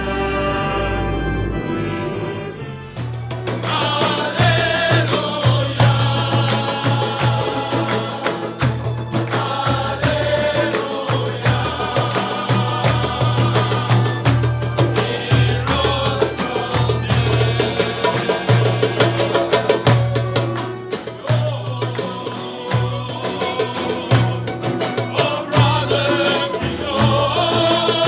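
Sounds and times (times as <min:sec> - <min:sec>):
upbeat song with drums and vocals: 0:03.0 - 0:28.0.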